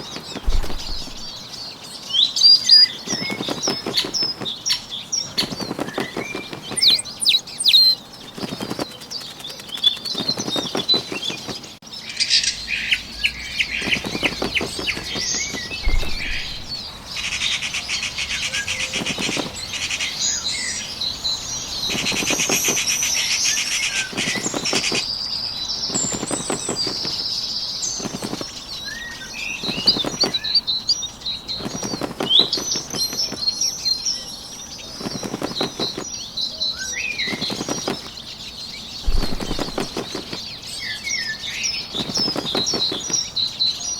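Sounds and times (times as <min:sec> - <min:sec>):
bird wings flapping: 0:00.0 - 0:01.7, 0:02.6 - 0:11.8, 0:13.4 - 0:17.3, 0:18.0 - 0:36.3, 0:37.0 - 0:43.7
small birds chirping: 0:00.0 - 0:43.9.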